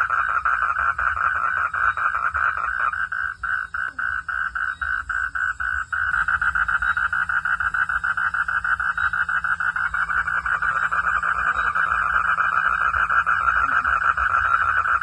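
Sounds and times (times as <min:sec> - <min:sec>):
frogs croaking in chorus: 0:00.0 - 0:15.0.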